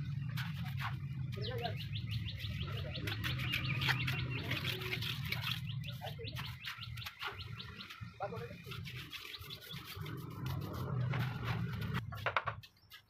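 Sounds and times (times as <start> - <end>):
small birds chirping: 0.0 - 12.0, 12.6 - 13.0.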